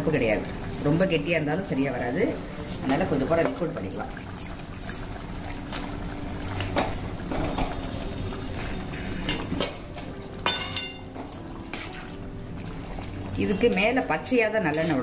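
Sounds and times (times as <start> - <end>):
wet sloppy stirring: 0.0 - 14.0.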